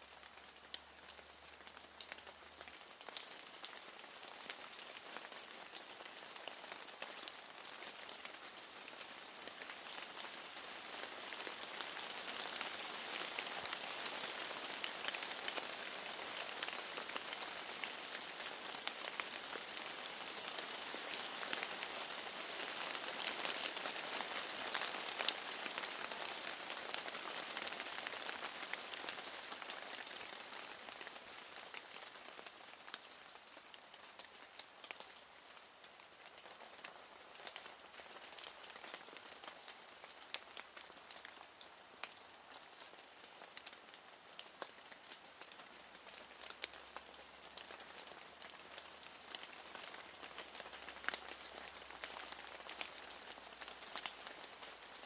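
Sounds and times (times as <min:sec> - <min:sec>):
rain drops tapping: 0:00.0 - 0:55.0.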